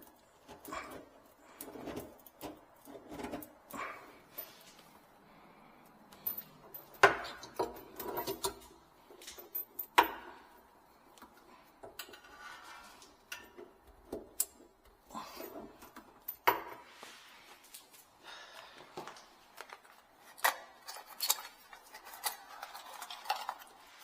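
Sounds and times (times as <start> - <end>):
tools and parts clattering: 0.0 - 18.2, 18.9 - 24.0.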